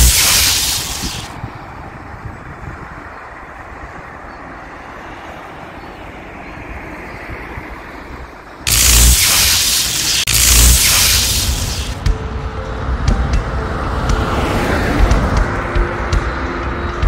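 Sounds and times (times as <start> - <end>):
highway traffic noise: 0.0 - 17.0.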